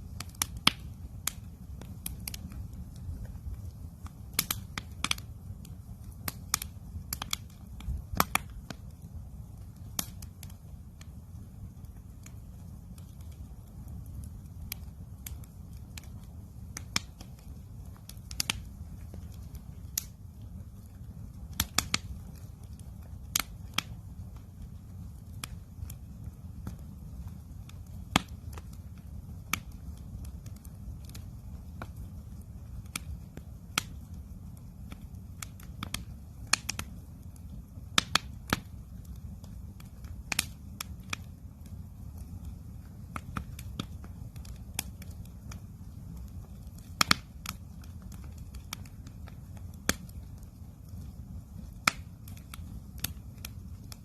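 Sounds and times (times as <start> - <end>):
campfire crackling and popping: 0.0 - 54.0
low fire rumble: 0.0 - 54.0.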